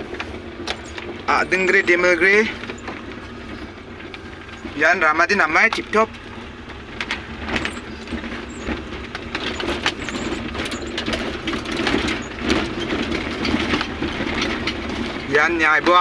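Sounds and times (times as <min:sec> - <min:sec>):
car engine and road noise: 0:00.0 - 0:16.0
car knocks and rattles on bumps: 0:00.0 - 0:16.0.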